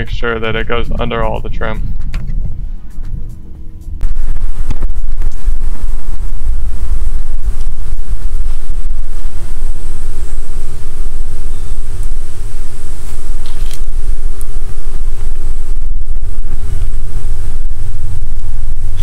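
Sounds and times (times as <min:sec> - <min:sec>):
faint hum: 0:00.0 - 0:19.0
wind buffeting microphone: 0:00.0 - 0:19.0.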